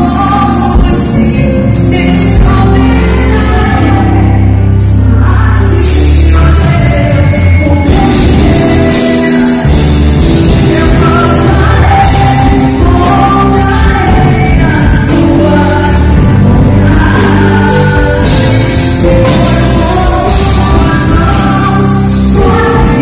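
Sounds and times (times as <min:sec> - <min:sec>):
gospel singing with full band: 0:00.0 - 0:23.0.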